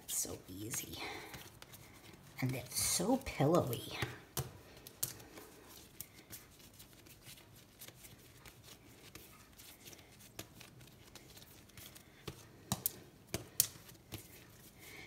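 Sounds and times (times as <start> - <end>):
hands patting dough: 0.0 - 15.0.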